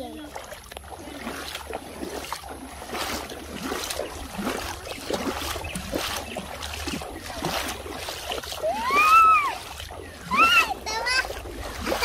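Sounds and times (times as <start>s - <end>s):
creek water splashing: 0.0s - 12.0s.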